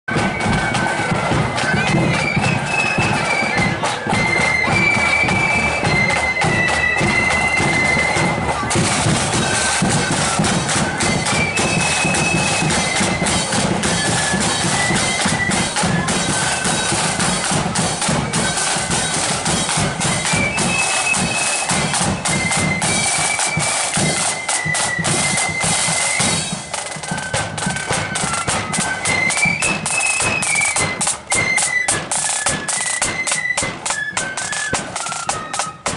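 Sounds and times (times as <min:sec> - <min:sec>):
flutes playing a tune: 0:00.1 - 0:35.9
snare and bass drums: 0:00.1 - 0:35.9.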